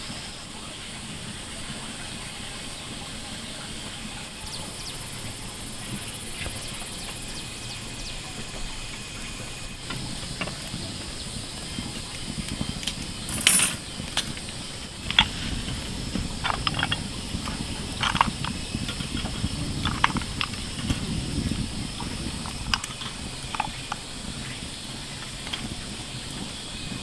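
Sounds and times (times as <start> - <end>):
wood fire crackling: 0.0 - 27.0
wire grill basket clatter: 4.7 - 27.0.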